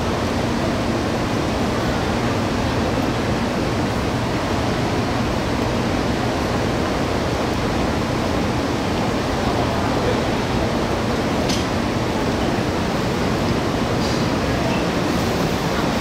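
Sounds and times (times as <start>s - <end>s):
underground platform rushing noise: 0.0s - 16.0s.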